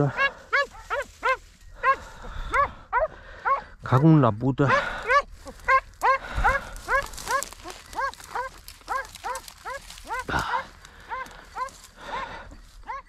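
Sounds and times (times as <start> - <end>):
dog yelping: 0.0 - 3.7, 4.7 - 13.0.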